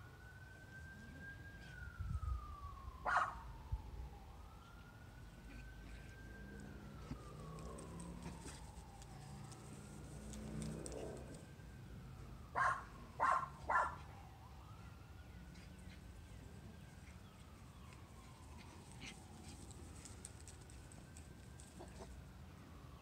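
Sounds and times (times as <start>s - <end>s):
distant siren: 0.0s - 23.0s.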